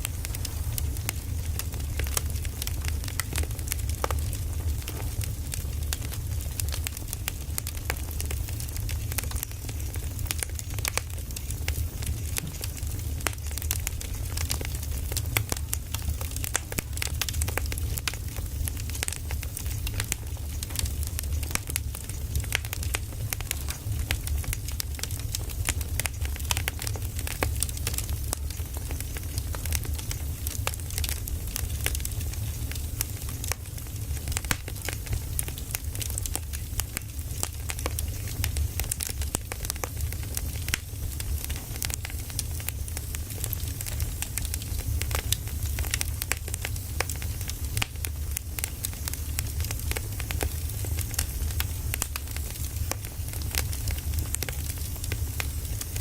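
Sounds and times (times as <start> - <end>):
firewood crackling and snapping: 0.0 - 56.0
low fire rumble: 0.0 - 56.0.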